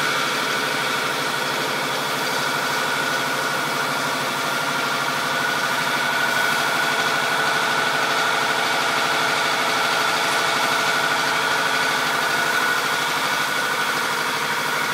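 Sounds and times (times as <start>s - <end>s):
high machine whine: 0.0s - 14.9s
machinery humming: 0.0s - 14.9s.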